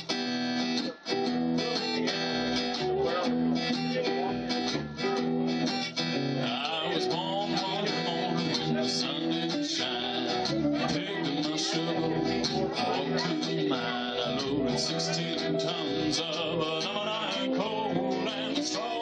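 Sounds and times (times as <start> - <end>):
acoustic guitar strumming: 0.0 - 19.0
person singing country song: 0.0 - 19.0.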